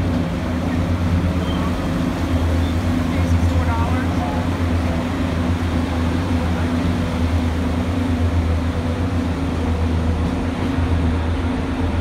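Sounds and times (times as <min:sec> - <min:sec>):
train rolling along track: 0:00.0 - 0:12.0.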